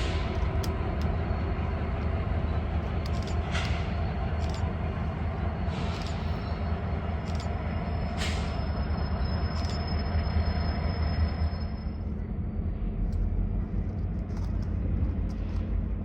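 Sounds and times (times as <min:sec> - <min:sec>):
train rumbling by: 0:00.0 - 0:16.0.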